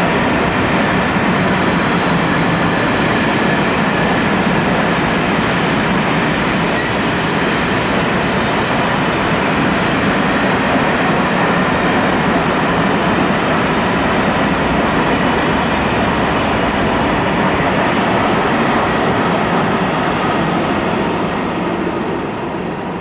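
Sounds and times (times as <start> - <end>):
freight train wheels rattling on rail: 0.0 - 23.0.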